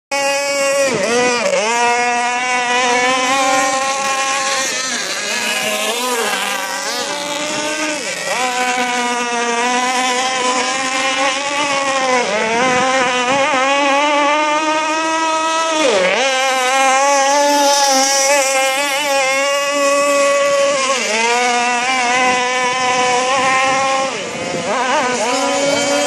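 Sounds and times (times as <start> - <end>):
racing boat engine revving: 0.1 - 26.0.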